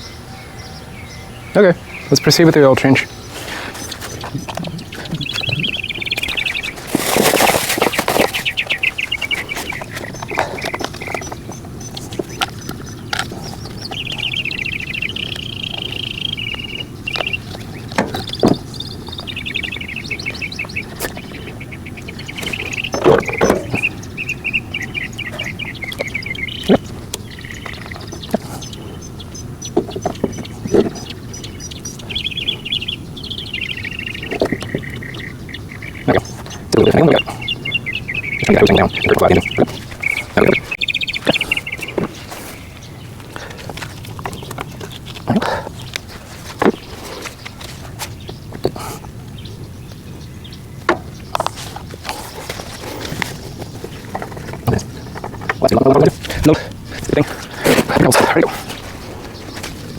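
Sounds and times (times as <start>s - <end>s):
small birds trilling: 0.0s - 59.9s.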